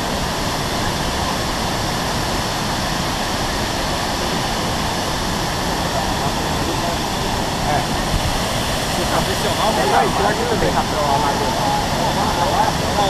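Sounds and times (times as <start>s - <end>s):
waterfall crashing: 0.0s - 13.0s.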